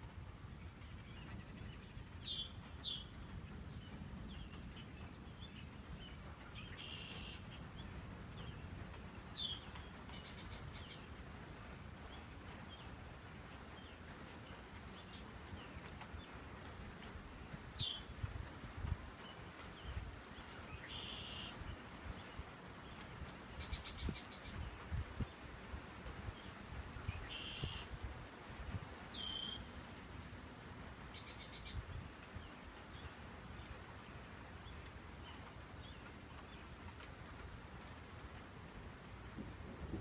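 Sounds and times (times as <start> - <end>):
songbirds trilling and chirping: 0.0 - 40.0.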